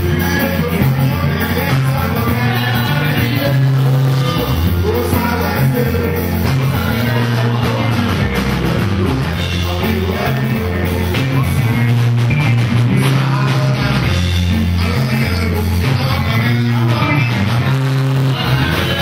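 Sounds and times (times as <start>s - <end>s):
drum kit: 0.0s - 19.0s
electric guitars: 0.0s - 19.0s
heavy bass line: 0.0s - 19.0s
man singing into a microphone: 0.0s - 19.0s.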